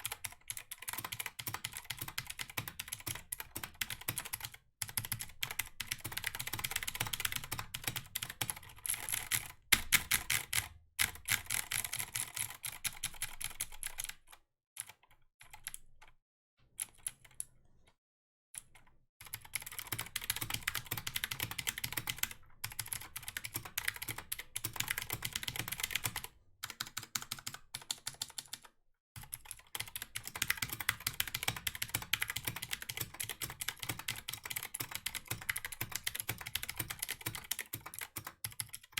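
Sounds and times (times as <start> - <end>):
fast typing on keyboard: 0.0 - 15.8, 19.2 - 38.9.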